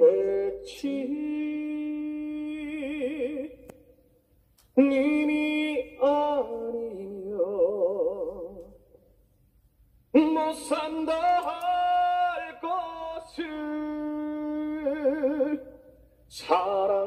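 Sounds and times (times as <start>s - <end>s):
man singing unaccompanied: 0.0s - 3.7s, 4.8s - 8.8s, 10.1s - 17.0s.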